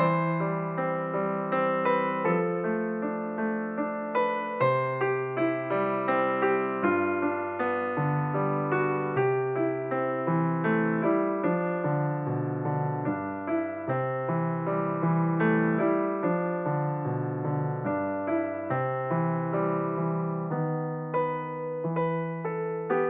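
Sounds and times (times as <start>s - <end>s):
gentle piano piece: 0.0s - 23.0s.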